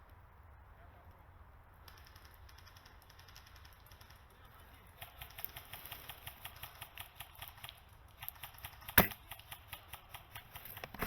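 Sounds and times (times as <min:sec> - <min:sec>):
airsoft gun rapid clicks: 0:01.8 - 0:11.0.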